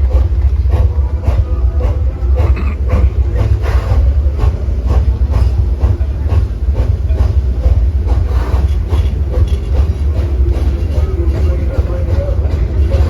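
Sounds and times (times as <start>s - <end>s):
low rumble of moving train: 0.0s - 13.0s
steam locomotive exhaust chuffing: 0.0s - 13.0s.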